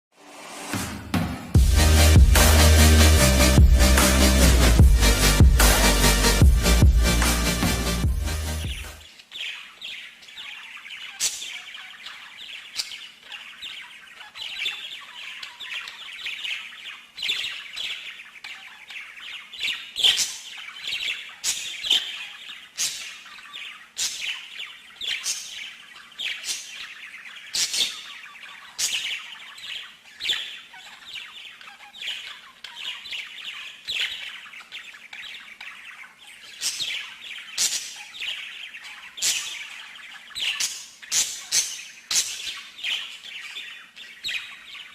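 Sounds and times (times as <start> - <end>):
sharp high bird chirps: 1.6 - 44.9
songbird warbling trill: 8.7 - 44.9.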